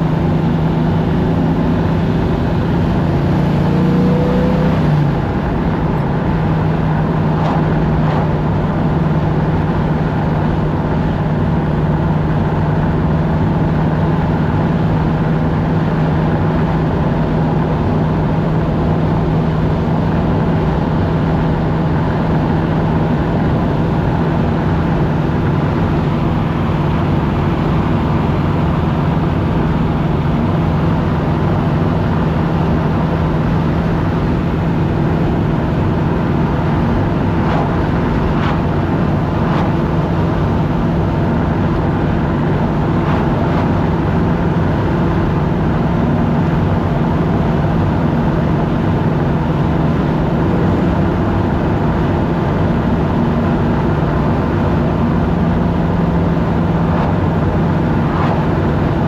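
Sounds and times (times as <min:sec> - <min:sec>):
car engine and exhaust cruising: 0:00.0 - 0:59.0
road and tyre noise: 0:00.0 - 0:59.0.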